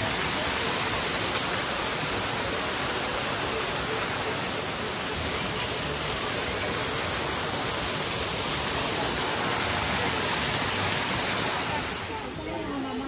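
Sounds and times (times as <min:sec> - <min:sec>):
waterfall pouring into pool: 0:00.0 - 0:12.4.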